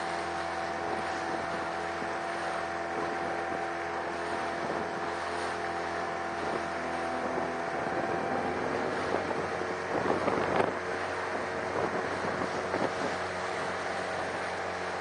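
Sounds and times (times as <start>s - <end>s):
boat engine running: 0.0s - 15.0s
water splashing against hull: 0.0s - 15.0s
wind on microphone: 0.0s - 15.0s.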